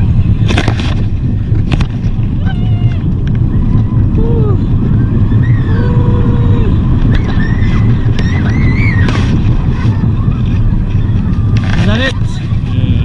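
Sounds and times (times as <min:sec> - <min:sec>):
roller coaster rumbling on track: 0:00.0 - 0:13.0
wind buffeting microphone: 0:00.0 - 0:13.0.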